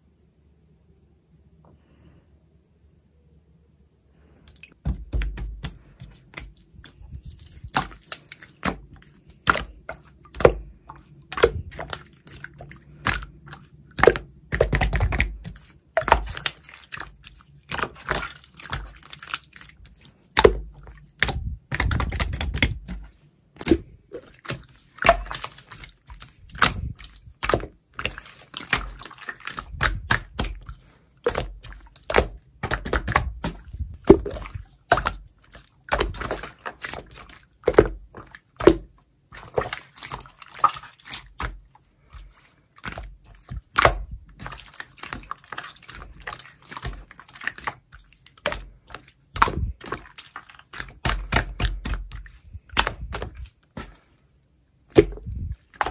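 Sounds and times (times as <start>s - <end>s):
slime squishing: 4.5s - 55.9s.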